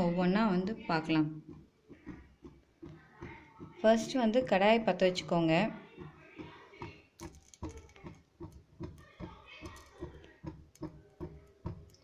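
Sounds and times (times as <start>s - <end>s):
faint irregular clicks and knocks: 0.0s - 12.0s.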